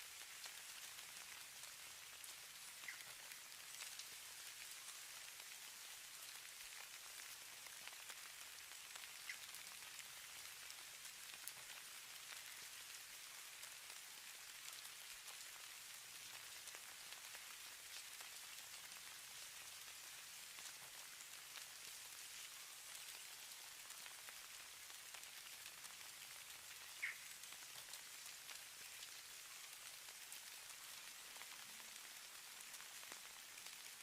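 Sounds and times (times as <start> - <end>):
falling snow hiss and ticks: 0.0 - 34.0.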